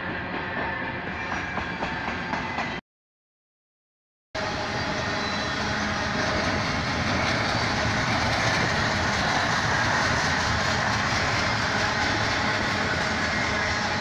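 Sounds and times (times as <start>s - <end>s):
freight train rolling past: 0.0s - 2.8s, 4.4s - 14.0s.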